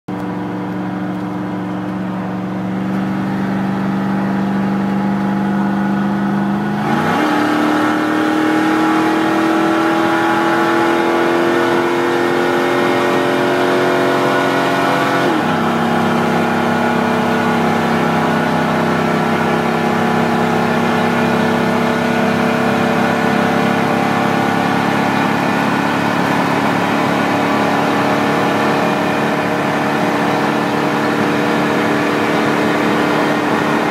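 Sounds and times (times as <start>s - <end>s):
engine revving at full throttle: 0.2s - 33.9s.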